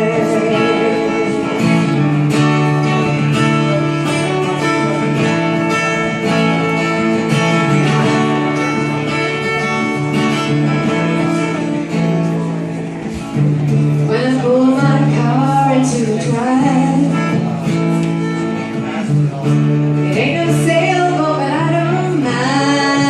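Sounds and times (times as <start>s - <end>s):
strummed guitar chords: 0.0s - 23.0s.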